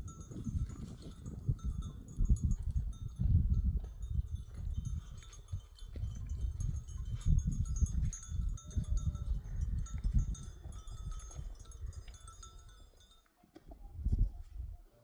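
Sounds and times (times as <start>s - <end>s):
animal bells tinkling: 0.0s - 13.4s
low rumble of herd moving: 0.0s - 15.0s.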